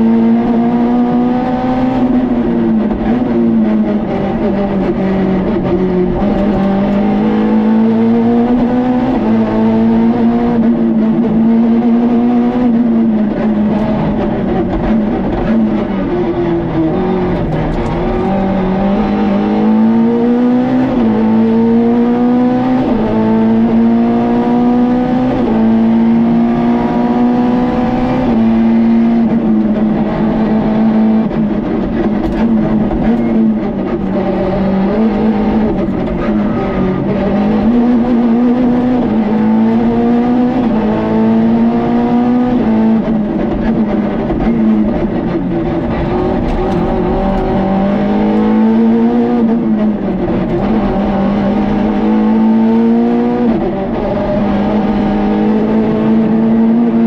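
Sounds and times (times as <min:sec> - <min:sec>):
rally car engine revving: 0:00.0 - 0:57.0
road noise: 0:00.0 - 0:57.0.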